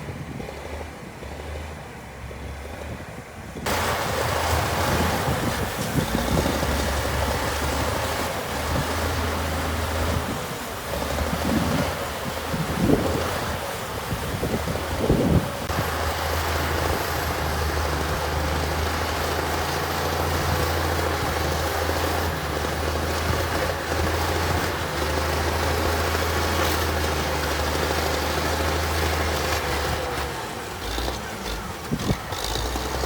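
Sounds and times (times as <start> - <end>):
heavy diesel engine humming: 0.0 - 33.0.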